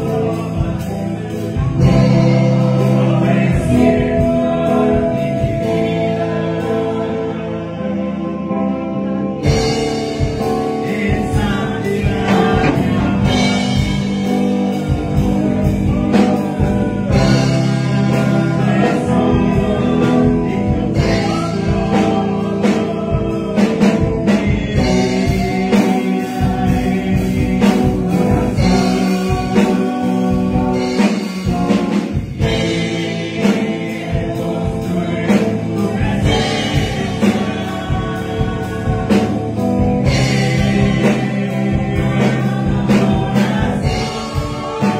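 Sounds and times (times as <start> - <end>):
man singing into a microphone: 0.0 - 9.4, 10.4 - 44.9
instrumental backing with drum beat: 0.0 - 44.9.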